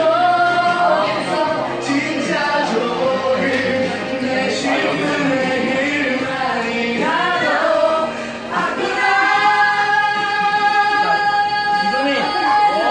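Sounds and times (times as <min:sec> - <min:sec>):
students singing in unison: 0:00.0 - 0:12.9.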